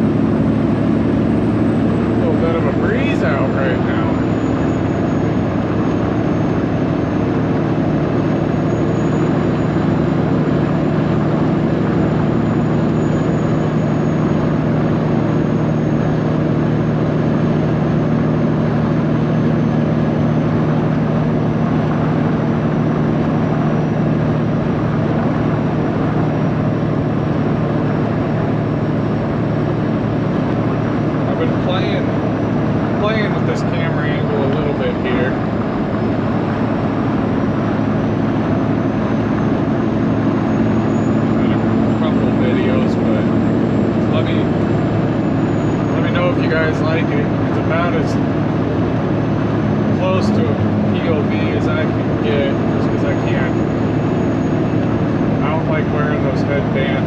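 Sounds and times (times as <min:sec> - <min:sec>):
truck diesel engine and exhaust: 0:00.0 - 0:57.0.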